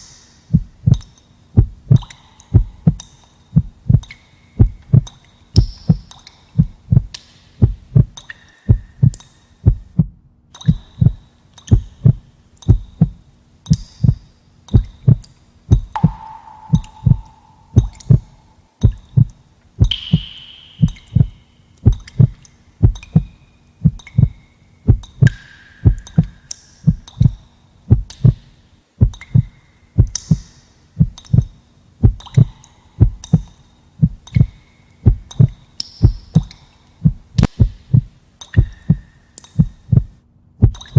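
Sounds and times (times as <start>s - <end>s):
heartbeat thumps: 0.5s - 1.0s, 1.6s - 28.4s, 29.0s - 40.9s.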